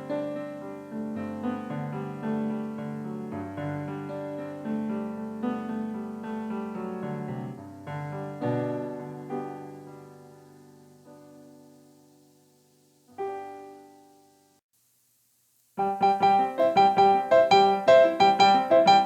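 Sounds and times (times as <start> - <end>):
electronic keyboard piano chords: 0.0 - 14.6, 15.8 - 19.0.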